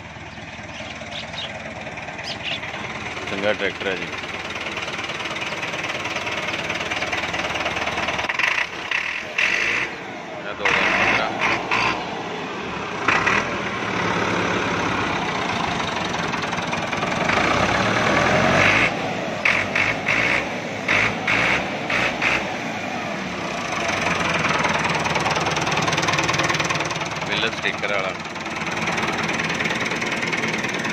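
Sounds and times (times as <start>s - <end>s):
tractor diesel engine idling: 0.0s - 30.9s.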